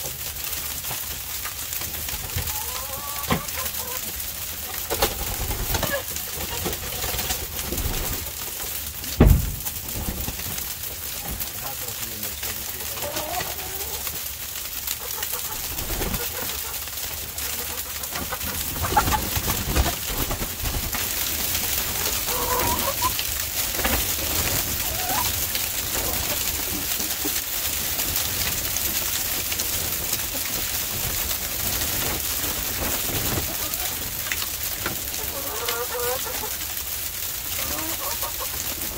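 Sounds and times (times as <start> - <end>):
chickens clucking: 0.0 - 38.9
freezing rain hissing: 0.0 - 38.9.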